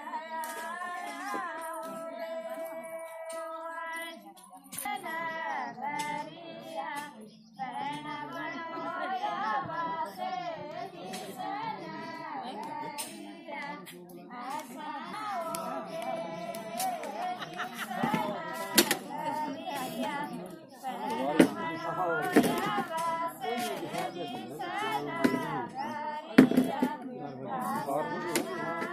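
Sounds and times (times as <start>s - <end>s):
women singing folk song: 0.0s - 28.9s.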